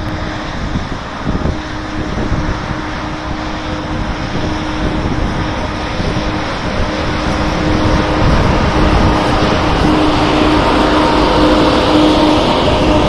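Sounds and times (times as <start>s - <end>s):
locomotive hum: 0.0s - 13.0s
train wheels rumbling: 0.0s - 13.0s.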